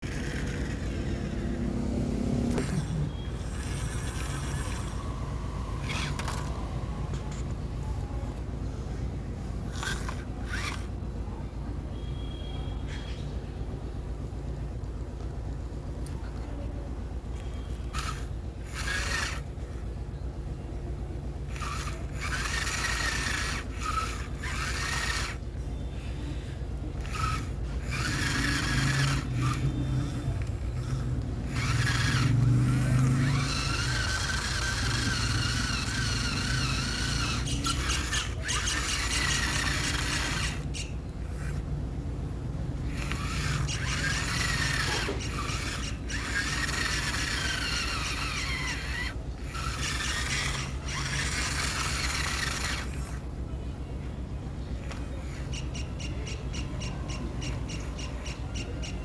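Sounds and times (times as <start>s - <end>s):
small electric motor whining: 0.0s - 11.3s, 17.4s - 20.2s, 21.2s - 41.8s, 42.4s - 53.4s, 54.7s - 56.5s.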